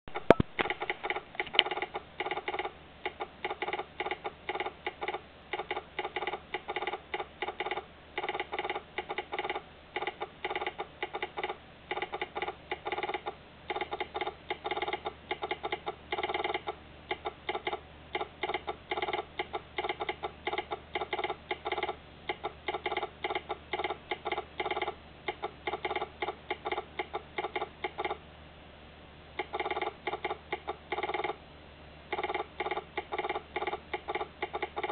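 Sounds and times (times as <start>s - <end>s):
telegraph sounder clicking: 0.1s - 28.2s, 29.4s - 31.4s, 32.1s - 34.9s.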